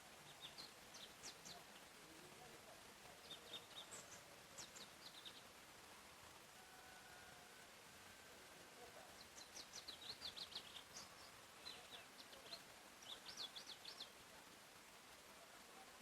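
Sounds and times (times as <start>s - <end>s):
background hiss: 0.0s - 16.0s
songbird singing: 0.0s - 16.0s.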